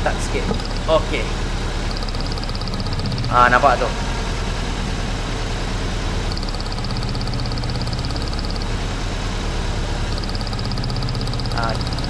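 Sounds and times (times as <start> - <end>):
fast high-pitched ticking: 0.0 - 4.6, 6.0 - 12.0
car engine idling roughly: 0.0 - 12.0.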